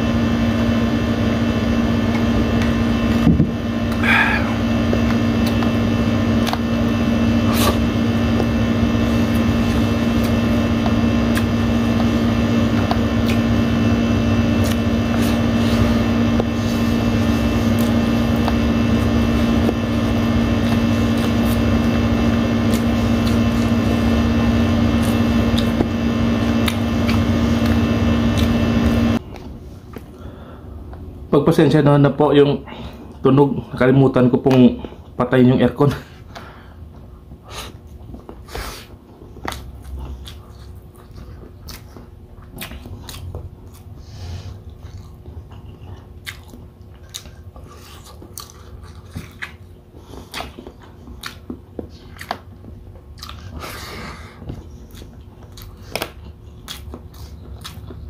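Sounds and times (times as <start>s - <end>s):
air conditioner humming: 0.0s - 58.0s
quiet eating sounds: 3.8s - 31.1s, 32.4s - 58.0s.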